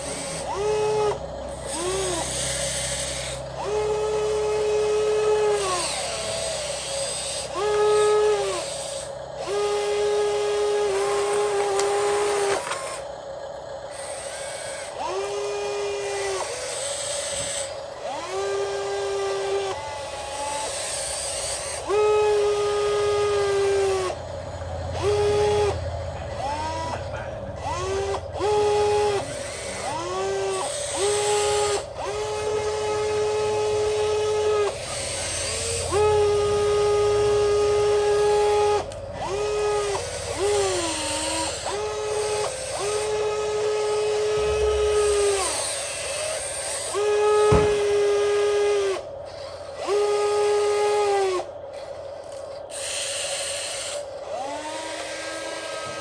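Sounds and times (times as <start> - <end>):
small electric motor whining: 0.0 - 56.0.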